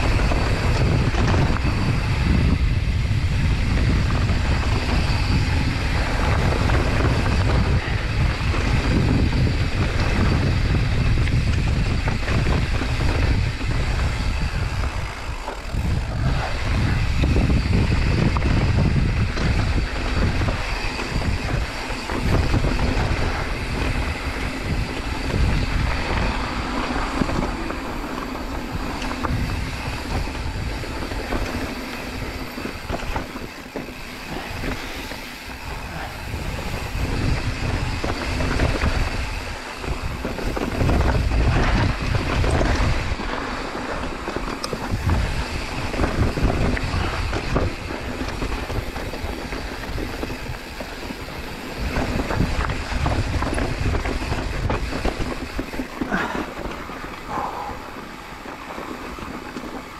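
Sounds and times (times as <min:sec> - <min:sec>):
bike rattling and knocking: 0:00.0 - 0:59.9
bike tyres rolling over dirt: 0:00.0 - 0:59.9
wind buffeting microphone: 0:00.0 - 0:59.9.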